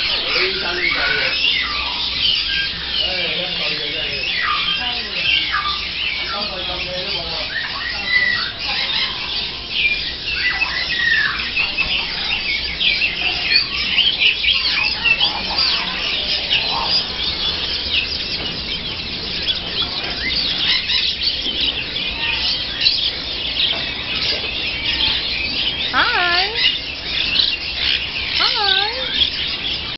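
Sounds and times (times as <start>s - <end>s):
caged songbirds chirping: 0.0s - 29.9s
lower falling bird calls: 0.0s - 29.9s.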